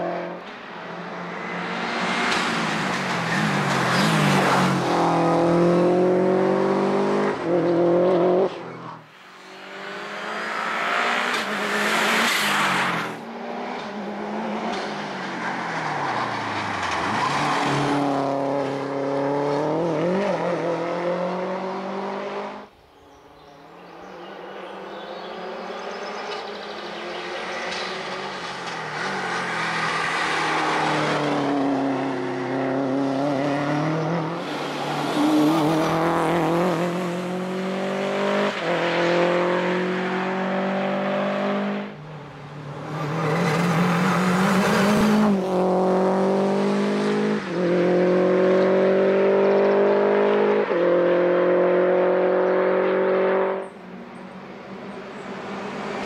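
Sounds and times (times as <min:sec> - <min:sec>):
car engine revving through gears: 0:01.6 - 0:08.6, 0:09.7 - 0:15.0, 0:16.8 - 0:22.7, 0:25.3 - 0:42.0, 0:42.8 - 0:53.7.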